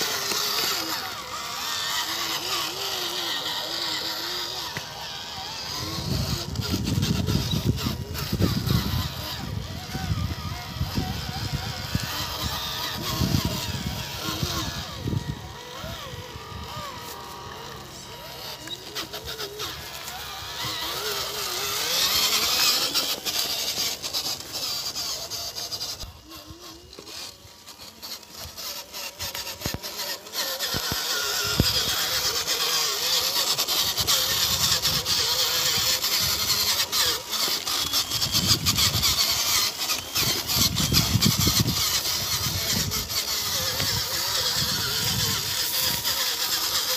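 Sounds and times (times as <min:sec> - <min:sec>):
dry stalks crackling under tyres: 0:00.0 - 0:46.9
toy truck motor running: 0:00.0 - 0:46.9.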